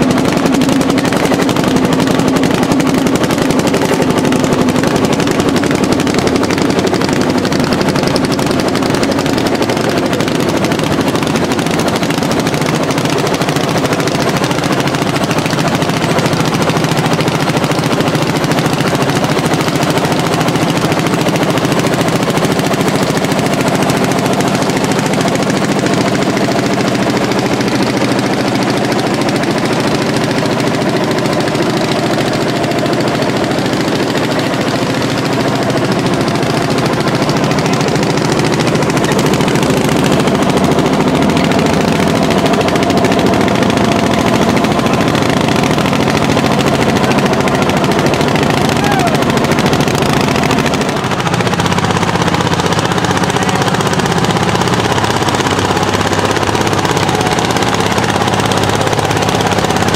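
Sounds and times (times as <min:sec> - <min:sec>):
tractor engine exhaust beat: 0:00.0 - 0:59.9.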